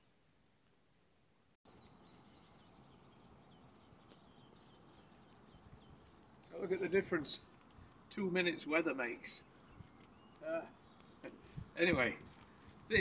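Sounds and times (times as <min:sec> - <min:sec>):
small bird chirping: 0:01.6 - 0:13.0.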